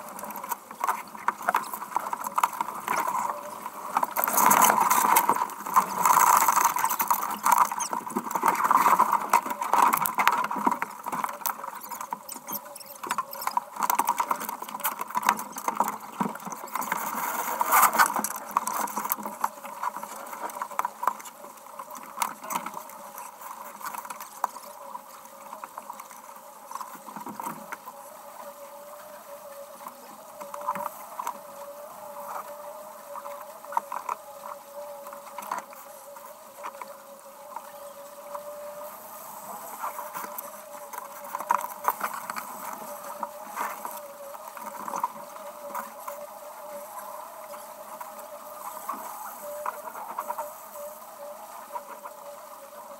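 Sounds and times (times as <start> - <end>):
water spray and rushing water: 0.0 - 52.9.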